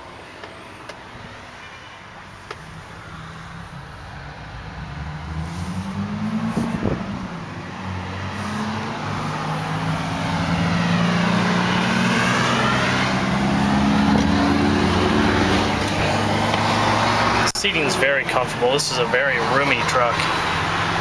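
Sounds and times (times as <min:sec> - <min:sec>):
tyre noise on road: 0:00.0 - 0:21.0
low engine hum: 0:02.3 - 0:21.0
vehicle passing close by: 0:03.0 - 0:21.0.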